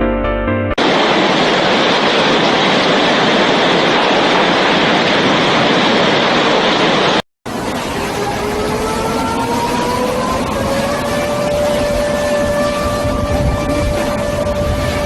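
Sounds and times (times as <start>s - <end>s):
wind and rushing water: 0.8s - 15.0s.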